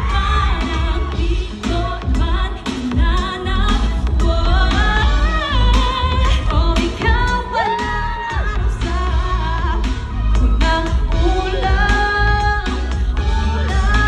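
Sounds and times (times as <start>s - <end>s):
female group vocals singing: 0.0s - 14.0s
pop backing track with heavy bass: 0.0s - 14.0s.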